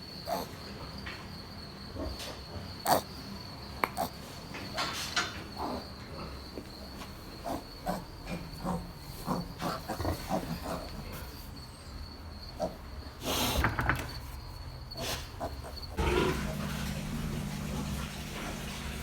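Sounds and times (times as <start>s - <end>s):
crickets trilling: 0.0s - 19.0s
pigs grunting: 0.3s - 0.7s, 1.9s - 3.2s, 3.8s - 11.8s, 12.4s - 19.0s.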